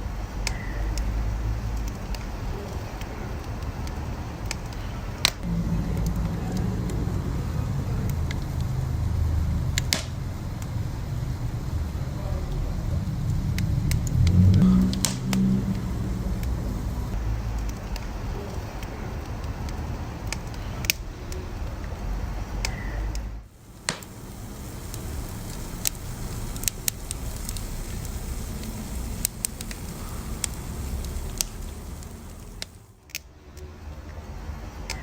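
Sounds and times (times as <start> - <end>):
wood fire rumbling: 0.0 - 33.2
crackles and pops of burning logs: 0.0 - 34.3.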